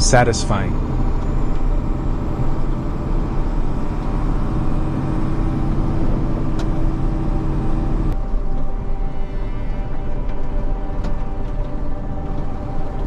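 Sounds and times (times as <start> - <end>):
snowplow engine running: 0.0 - 13.0.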